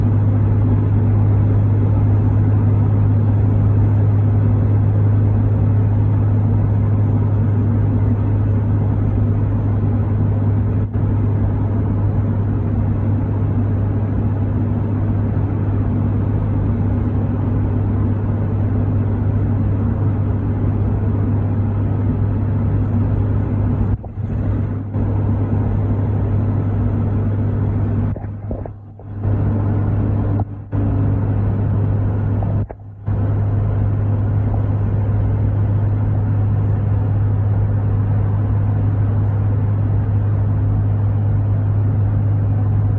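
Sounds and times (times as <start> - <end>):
pickup truck engine drone: 0.0 - 42.9.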